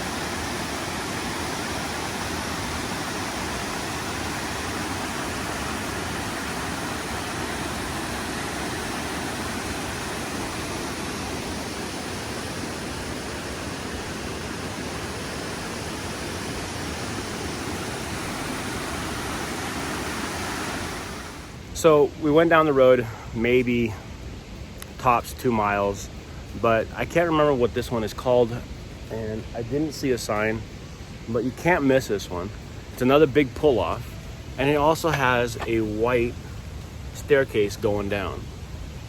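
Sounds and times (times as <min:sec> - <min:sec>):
creek water rushing: 0:00.0 - 0:39.0.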